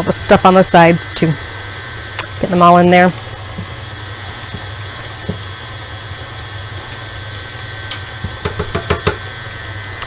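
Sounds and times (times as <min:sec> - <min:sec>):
stand mixer motor humming: 0:00.0 - 0:10.0.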